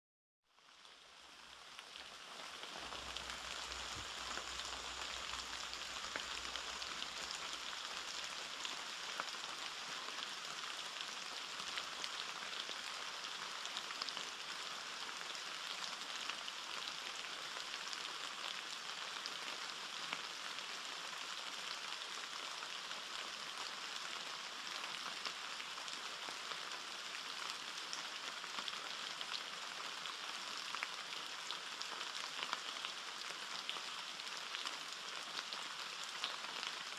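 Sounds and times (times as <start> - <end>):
steady rain: 0.5 - 36.9.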